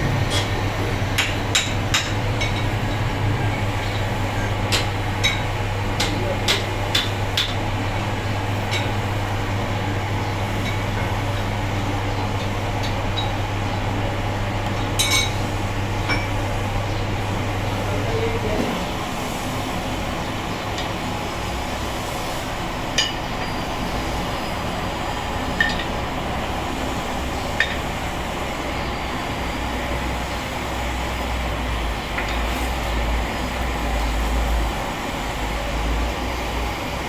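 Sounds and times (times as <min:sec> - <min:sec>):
steady low hum: 0:00.0 - 0:32.2.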